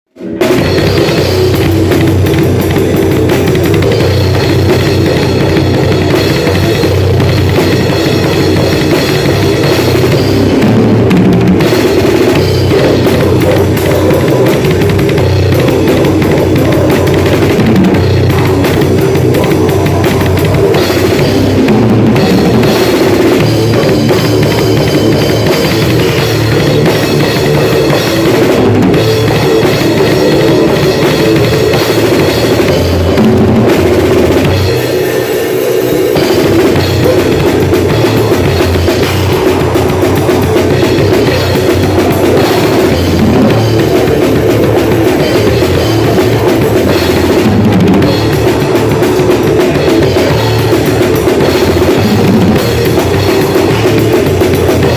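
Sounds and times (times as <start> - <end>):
drum kit played hard: 0.1 - 54.9.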